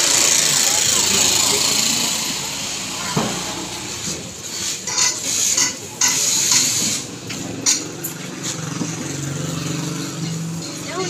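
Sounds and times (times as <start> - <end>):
faint street noise: 0.0 - 11.0.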